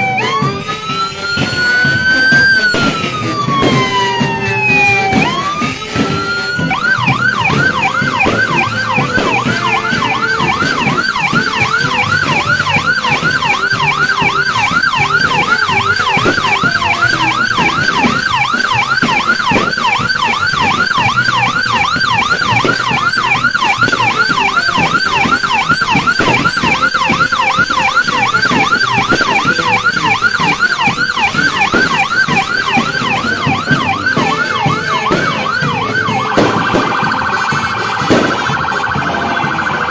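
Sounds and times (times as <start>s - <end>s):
electronic siren yelping: 0.0s - 39.9s.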